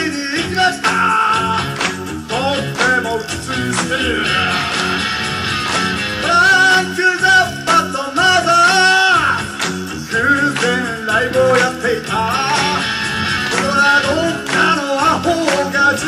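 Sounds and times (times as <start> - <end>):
upbeat rock song with vocals: 0.0 - 16.0.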